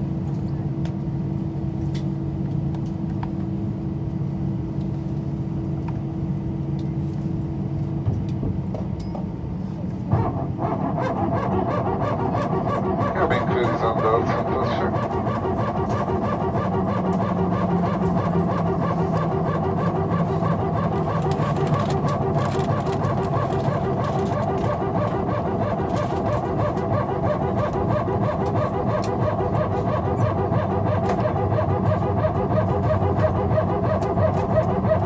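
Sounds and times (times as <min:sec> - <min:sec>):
aircraft cabin hum: 0:00.0 - 0:35.0.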